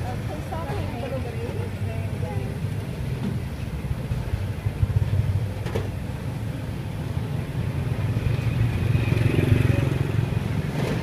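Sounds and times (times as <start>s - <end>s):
motorbike engines running: 0.0s - 11.0s
street traffic: 0.0s - 11.0s.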